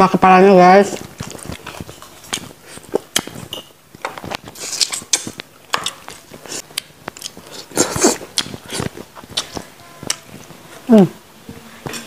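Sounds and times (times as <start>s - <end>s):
close-miked chewing and lip smacking: 0.9s - 10.6s.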